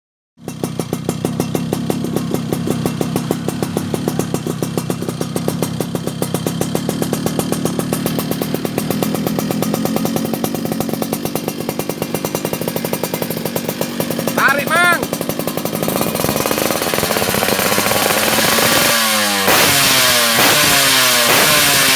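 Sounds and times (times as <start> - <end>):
two-stroke motorcycle engine running: 0.4 - 21.9.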